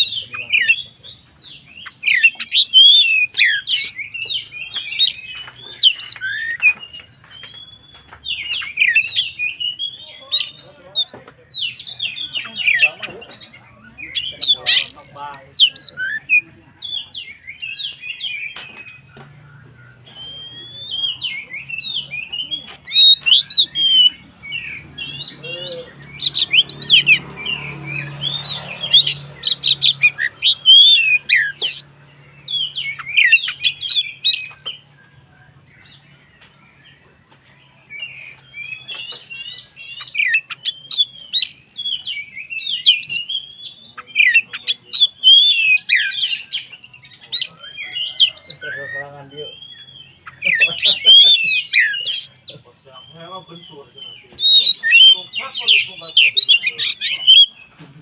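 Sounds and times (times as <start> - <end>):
bird singing varied whistles: 1.8 - 12.4, 17.4 - 34.9, 37.9 - 52.4, 53.0 - 57.6.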